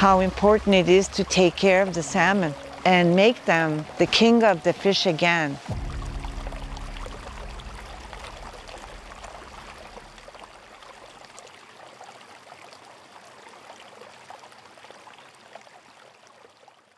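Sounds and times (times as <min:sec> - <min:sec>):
stream water babbling: 0:00.0 - 0:16.9.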